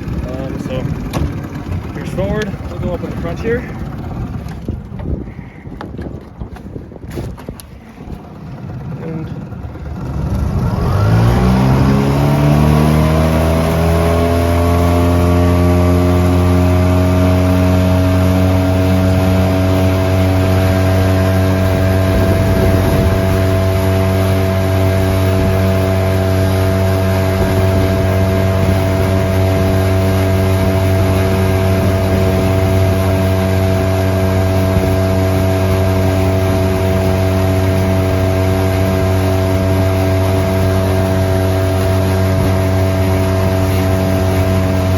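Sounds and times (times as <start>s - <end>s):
outboard motor revving: 0.0s - 44.9s.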